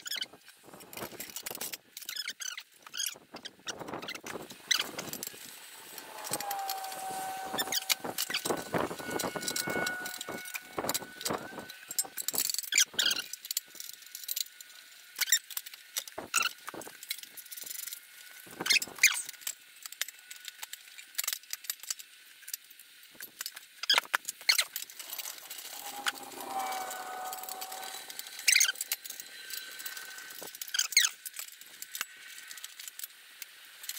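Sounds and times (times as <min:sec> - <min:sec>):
plastic shroud clicks and squeaks: 0:00.0 - 0:22.6, 0:23.2 - 0:33.1.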